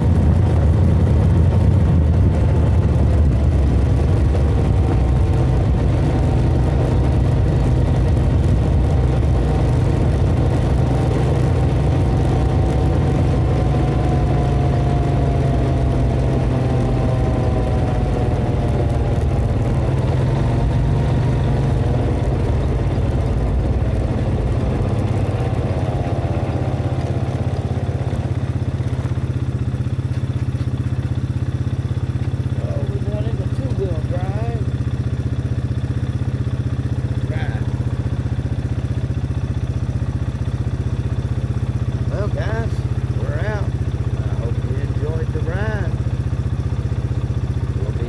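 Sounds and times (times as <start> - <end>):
atv engine running: 0.0 - 48.0.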